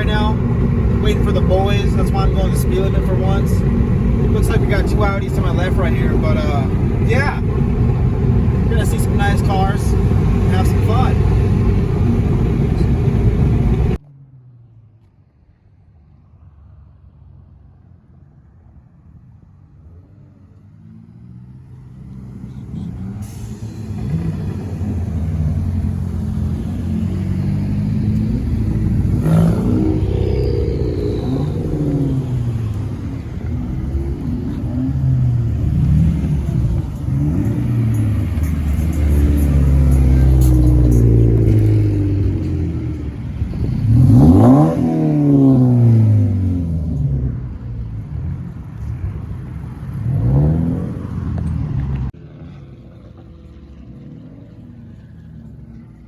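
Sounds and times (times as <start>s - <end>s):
car engine revving: 0.0s - 14.0s, 19.9s - 56.0s.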